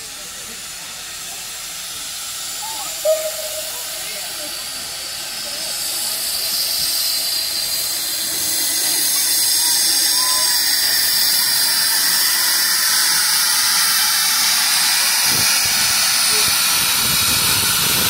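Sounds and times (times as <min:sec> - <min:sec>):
steam locomotive hissing steam: 0:00.0 - 0:18.0.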